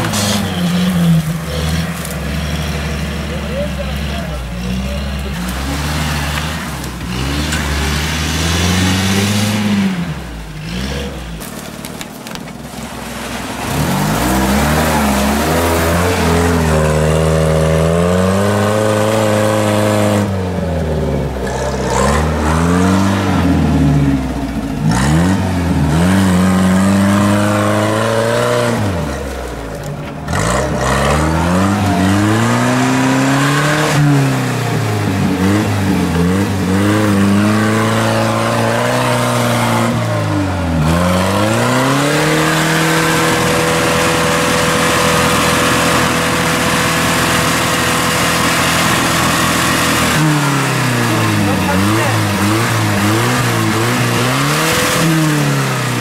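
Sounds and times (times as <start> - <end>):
engine revving hard: 0.0 - 11.4, 13.6 - 56.0.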